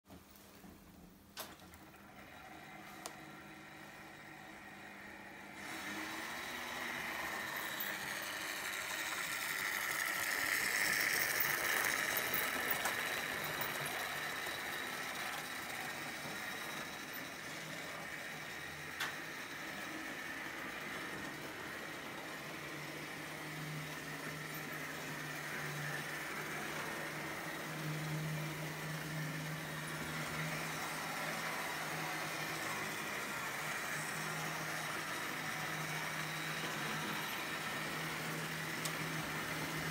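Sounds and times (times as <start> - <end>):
model train motor whir: 1.8 - 39.9.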